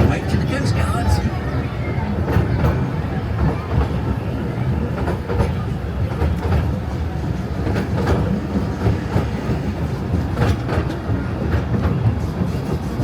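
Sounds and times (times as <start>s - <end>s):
ride train rumbling on track: 0.0s - 13.0s
wheels clacking over rails: 1.7s - 13.0s.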